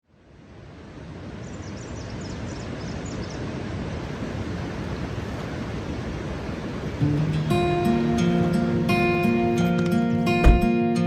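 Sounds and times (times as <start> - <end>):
rushing nature ambience: 0.1 - 11.0.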